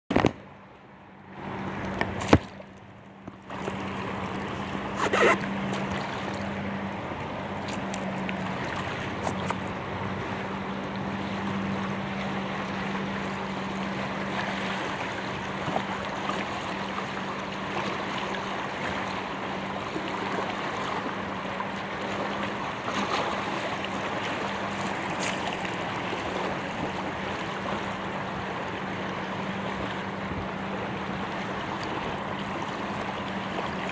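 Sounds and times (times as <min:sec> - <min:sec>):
choppy river water rushing: 0:00.1 - 0:33.9.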